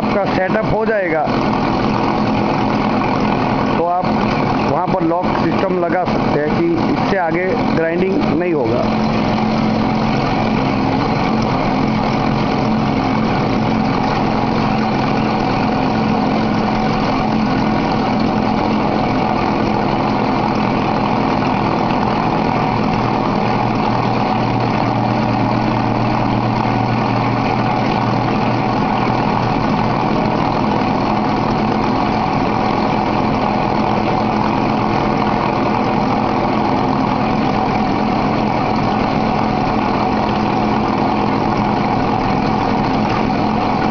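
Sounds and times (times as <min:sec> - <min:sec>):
deeper hum: 0:00.0 - 0:43.9
grinding machine motor hum: 0:00.0 - 0:43.9.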